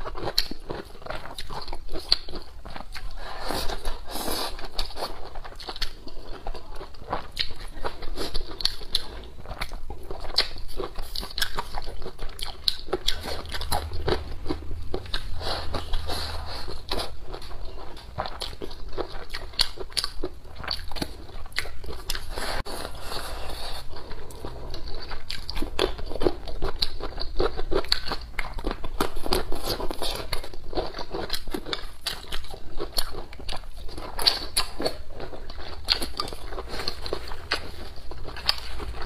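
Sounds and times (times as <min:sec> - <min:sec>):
chewing and crunching food: 0:00.0 - 0:39.0.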